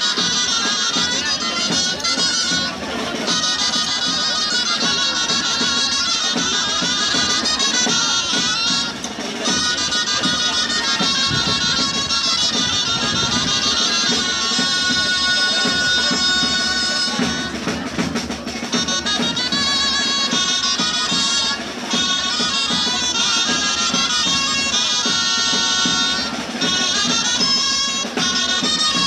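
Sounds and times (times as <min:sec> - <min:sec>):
drums: 0:00.0 - 0:29.0
shrill reed wind instrument: 0:00.0 - 0:29.0.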